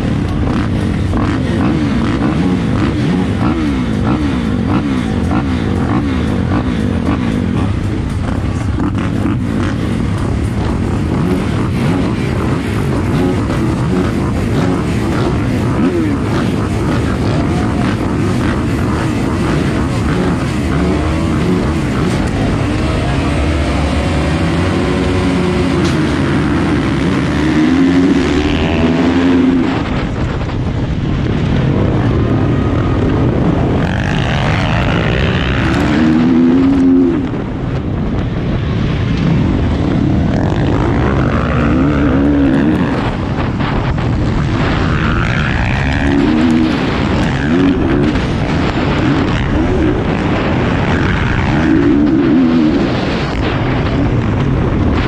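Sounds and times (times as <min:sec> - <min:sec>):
motocross bike engine revving: 0:00.0 - 0:55.0
other bikes: 0:00.0 - 0:55.0.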